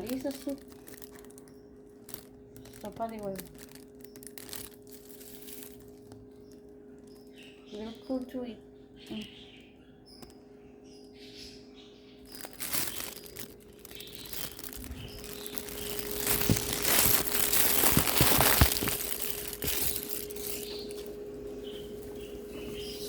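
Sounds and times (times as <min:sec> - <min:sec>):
crinkling and rustling: 0:00.0 - 0:08.5, 0:12.2 - 0:23.0
faint steady hum: 0:00.0 - 0:23.0.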